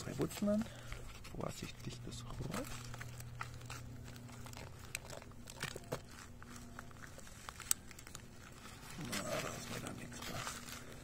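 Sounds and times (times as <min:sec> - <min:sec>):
plastic pot crinkling: 0:00.0 - 0:11.0.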